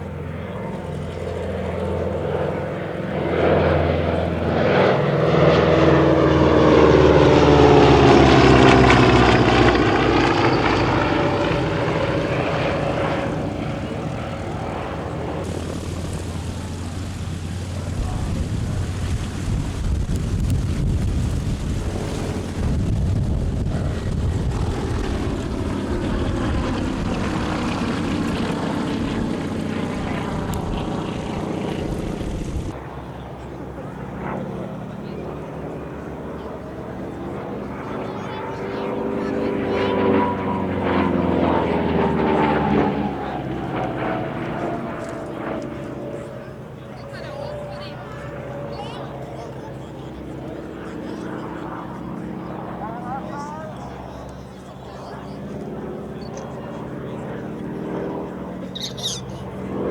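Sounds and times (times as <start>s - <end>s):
propeller aircraft flying past: 0.0s - 59.9s
steady engine drone: 0.0s - 59.9s.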